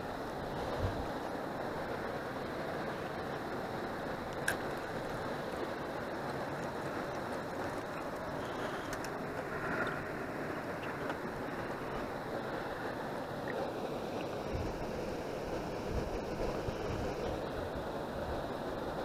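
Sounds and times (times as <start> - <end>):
river water rippling: 0.0 - 19.0
wind buffeting microphone: 0.4 - 19.0.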